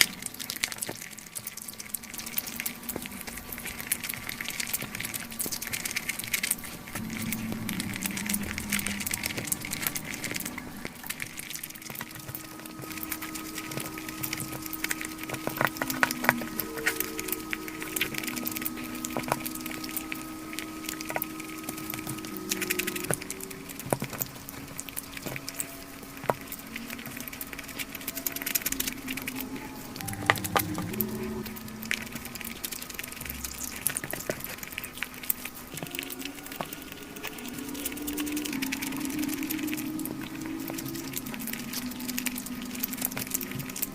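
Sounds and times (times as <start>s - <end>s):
crunching fried chicken: 0.0s - 43.9s.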